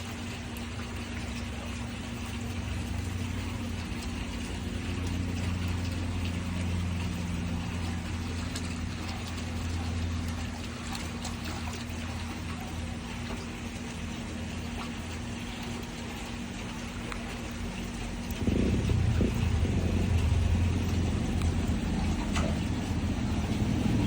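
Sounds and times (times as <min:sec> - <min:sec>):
pump motor hum: 0:00.0 - 0:24.0
water running: 0:00.0 - 0:24.0.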